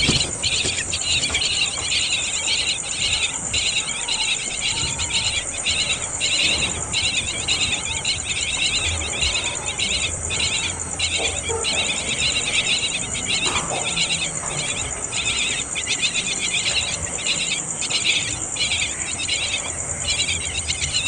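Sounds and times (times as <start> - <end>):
insect high-pitched drone: 0.0 - 21.0
pulsing insect chorus: 0.0 - 21.0.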